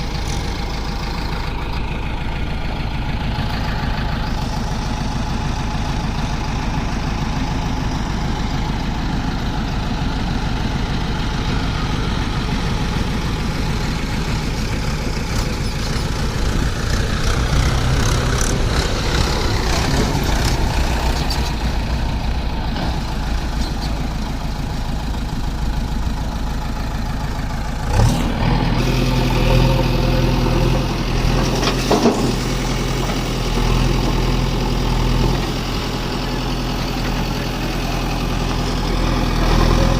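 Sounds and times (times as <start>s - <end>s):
deep steady engine note: 0.0s - 39.9s
diesel engine idling: 0.0s - 39.9s.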